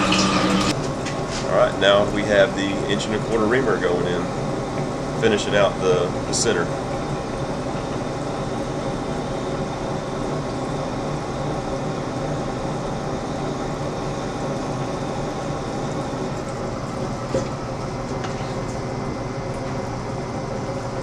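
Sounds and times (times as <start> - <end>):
coolant pouring: 0.0 - 21.0
lathe mechanical drone: 0.0 - 21.0.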